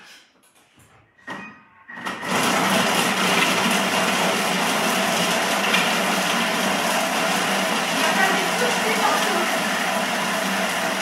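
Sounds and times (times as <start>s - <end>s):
food processor blade whirring: 1.9s - 11.0s.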